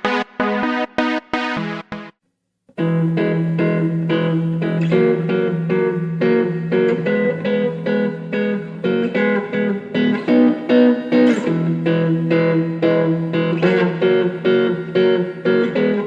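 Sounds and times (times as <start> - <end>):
electric guitar chord riff: 0.0 - 2.2, 2.8 - 16.0.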